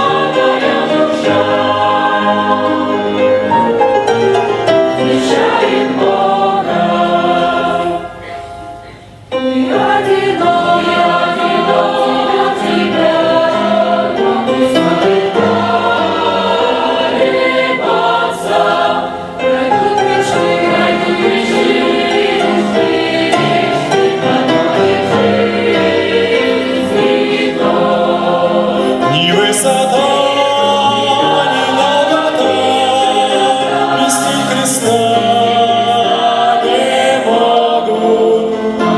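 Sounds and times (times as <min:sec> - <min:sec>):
choir singing a hymn: 0:00.0 - 0:38.9
musical accompaniment: 0:00.0 - 0:38.9.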